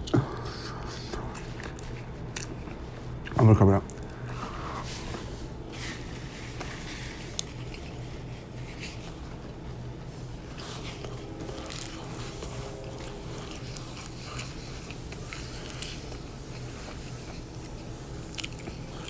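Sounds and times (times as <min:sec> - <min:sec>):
chewing crunchy food: 0:00.0 - 0:04.4, 0:05.9 - 0:19.0
steady low hum: 0:00.0 - 0:19.0.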